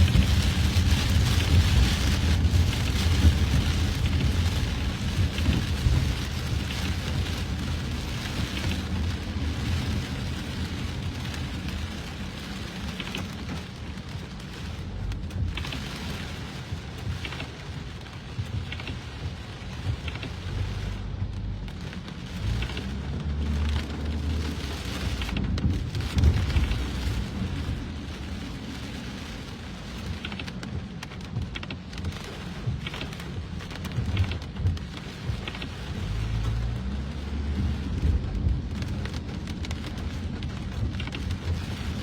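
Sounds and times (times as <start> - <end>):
heavy rain pouring: 0.0 - 42.0
low rumble: 0.0 - 42.0.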